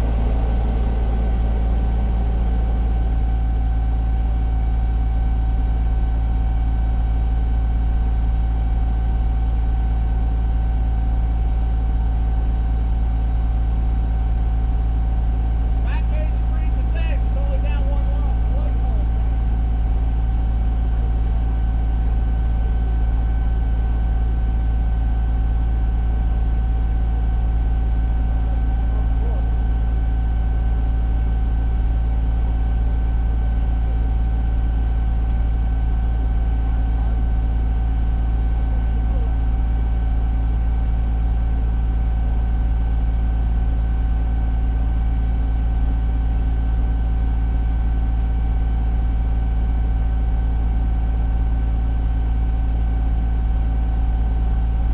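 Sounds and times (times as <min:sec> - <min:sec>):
diesel engine rumble: 0:00.0 - 0:54.9.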